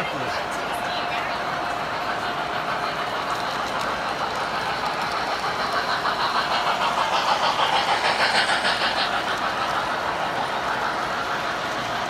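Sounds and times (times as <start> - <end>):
model train wheels clicking: 0.0 - 12.0
model trains running: 0.0 - 12.0.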